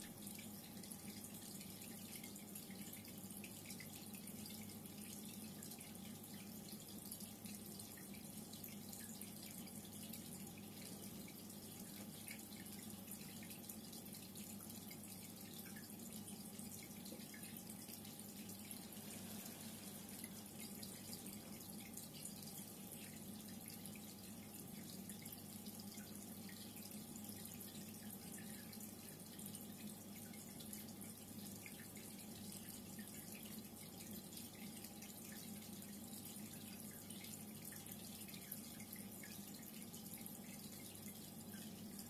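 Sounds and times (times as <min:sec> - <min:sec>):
low pump hum: 0:00.0 - 0:42.0
water trickling and bubbling: 0:00.0 - 0:42.0.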